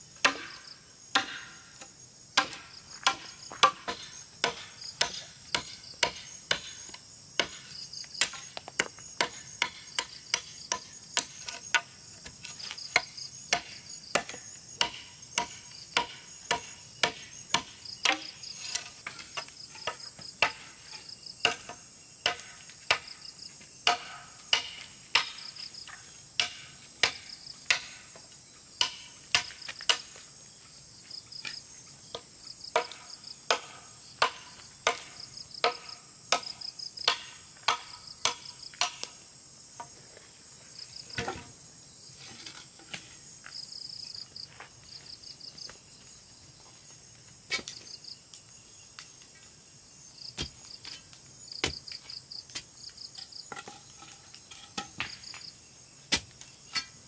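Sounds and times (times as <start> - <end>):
insect chirring: 0.0 - 57.0.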